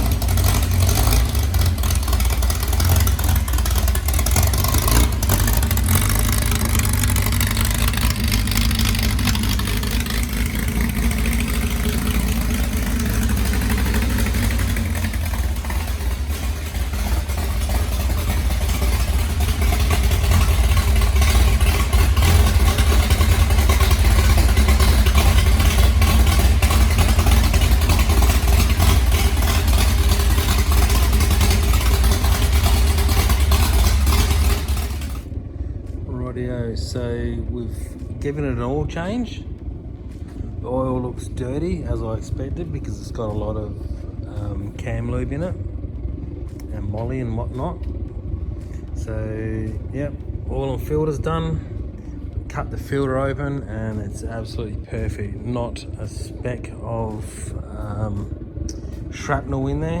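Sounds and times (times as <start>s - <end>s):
engine running steadily: 0.0s - 60.0s.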